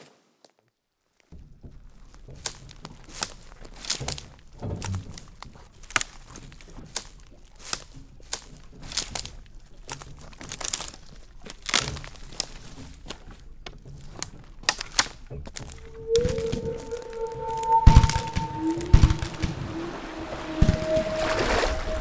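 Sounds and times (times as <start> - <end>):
twigs crunching and snapping: 1.2 - 19.5.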